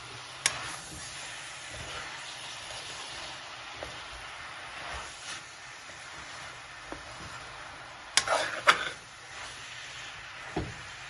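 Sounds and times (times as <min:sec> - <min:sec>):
cabbage sizzling in a pan: 0:00.0 - 0:11.0.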